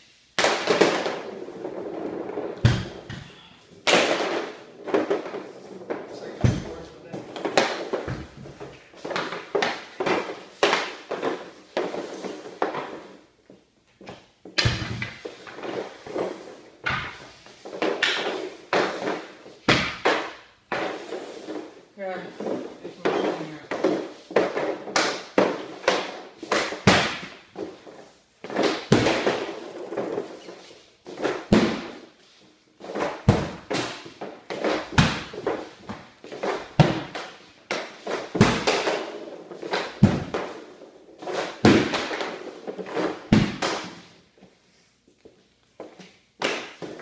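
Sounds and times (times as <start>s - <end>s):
hockey stick hitting puck: 0.4s - 44.6s, 45.8s - 47.0s
pucks scraping and knocking: 0.4s - 47.0s.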